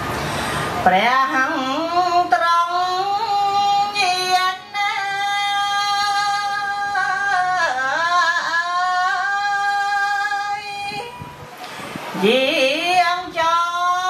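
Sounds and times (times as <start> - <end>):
woman chanting through microphone: 0.8 - 11.4, 12.1 - 14.0.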